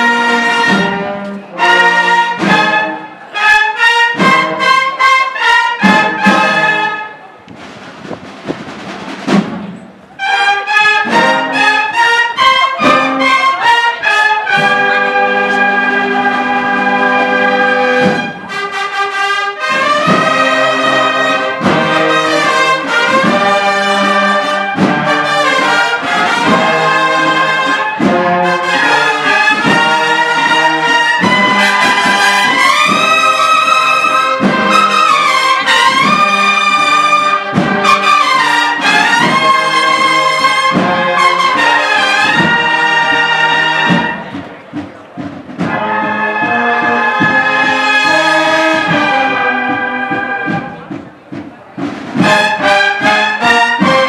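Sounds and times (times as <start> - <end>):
brass band playing a march: 0.0 - 54.0.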